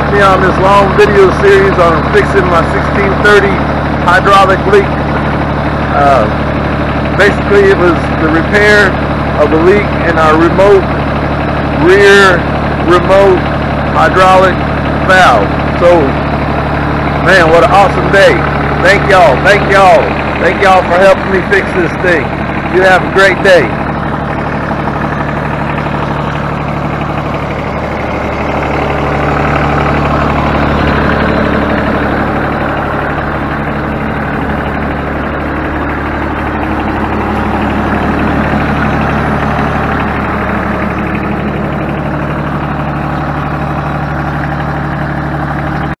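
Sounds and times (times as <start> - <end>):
diesel tractor engine idling: 0.0 - 46.0.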